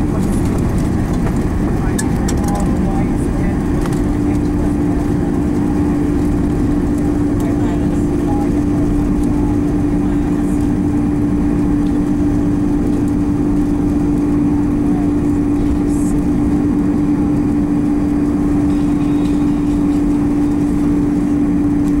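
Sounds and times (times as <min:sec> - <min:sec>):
constant cabin hum: 0:00.0 - 0:22.0
low rumble of engines and wheels: 0:00.0 - 0:22.0.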